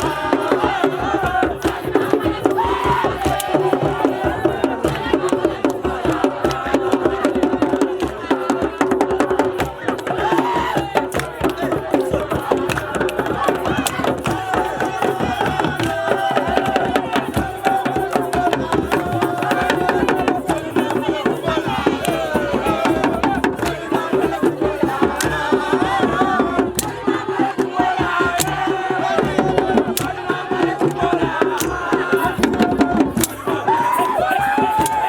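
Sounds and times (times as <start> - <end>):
hand drums beating fast: 0.0 - 35.0
voices singing or chanting: 0.0 - 35.0.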